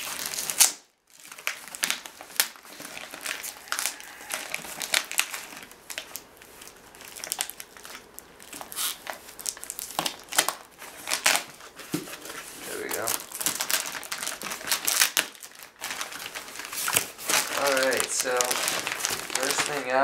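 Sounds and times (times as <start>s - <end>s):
packing tape peeled and torn: 0.0s - 20.0s.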